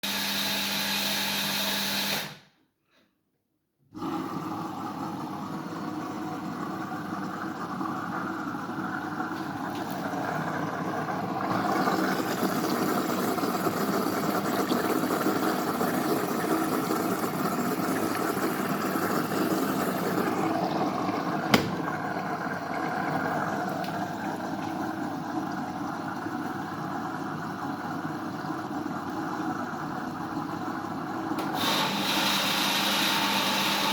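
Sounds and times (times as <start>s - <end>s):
washing machine running: 0.0s - 2.4s, 3.9s - 33.9s.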